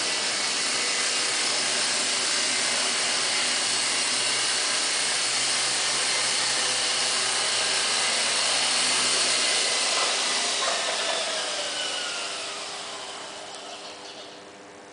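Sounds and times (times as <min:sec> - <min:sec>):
toy helicopter motor whirring: 0:00.0 - 0:14.4.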